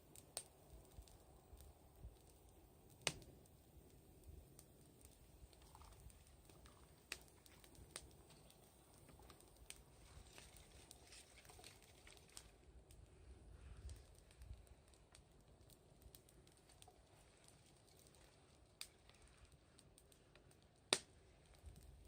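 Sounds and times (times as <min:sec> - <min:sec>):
fire popping and snapping: 0:00.0 - 0:22.0
wood fire crackling: 0:00.0 - 0:22.0.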